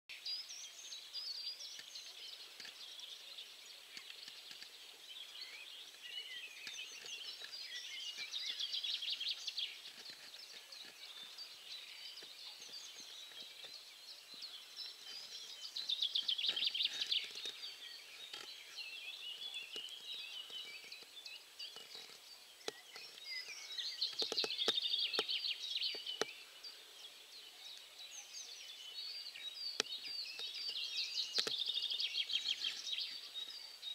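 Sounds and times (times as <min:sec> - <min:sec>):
fast rattling bird song: 0:00.1 - 0:33.9
songbirds chirping and trilling: 0:00.1 - 0:33.9.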